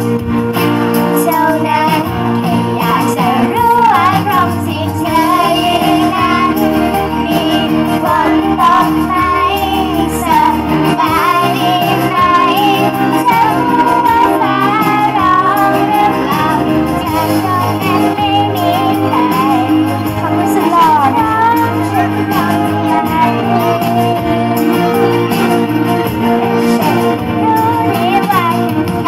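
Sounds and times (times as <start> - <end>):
pop backing music over speakers: 0.0 - 29.0
girls singing into microphones: 1.1 - 28.8.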